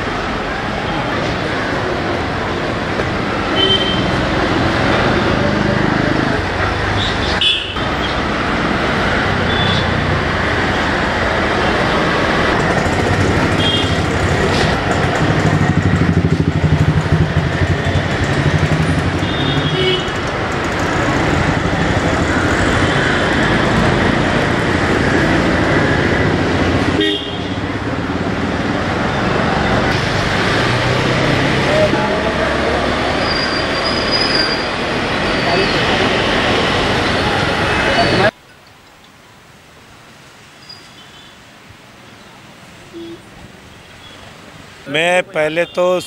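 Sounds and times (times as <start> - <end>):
loud vehicle engine: 0.0 - 38.4
passing traffic rumble: 0.0 - 40.6.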